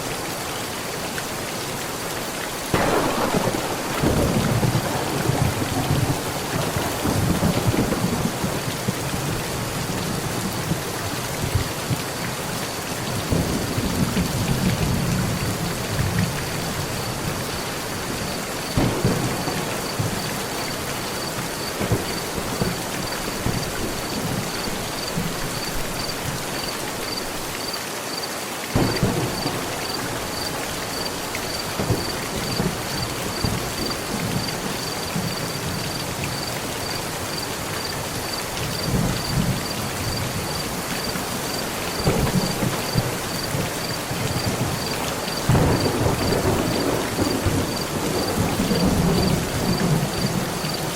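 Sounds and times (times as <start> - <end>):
heavy rain on a metal roof: 0.0 - 50.9
thunder rumbling: 2.7 - 12.0, 13.2 - 27.5, 28.7 - 37.2, 37.9 - 50.9.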